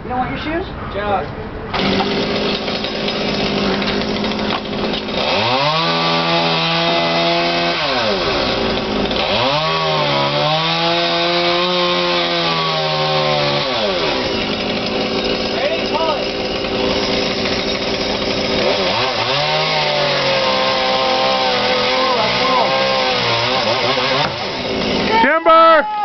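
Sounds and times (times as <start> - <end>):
chainsaw idling and revving: 1.7 - 25.4.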